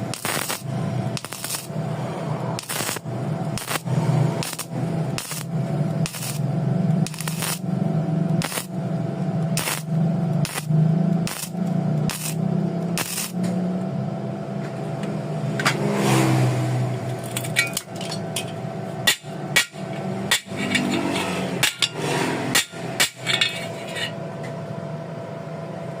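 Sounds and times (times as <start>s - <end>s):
steady low hum: 0.0s - 15.8s, 16.5s - 26.0s.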